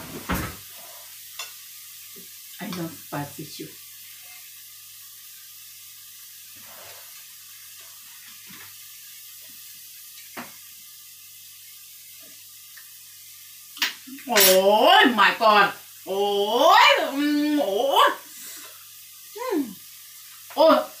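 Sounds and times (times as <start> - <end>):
paste sizzling in a wok: 0.0 - 21.0.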